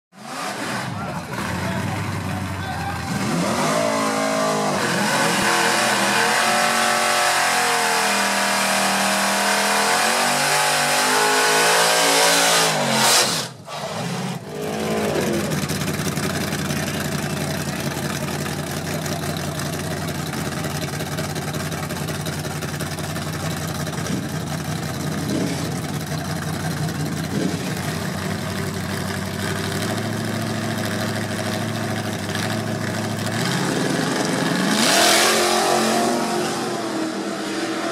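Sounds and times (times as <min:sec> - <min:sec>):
pickup truck engine revving: 0:00.2 - 0:37.9.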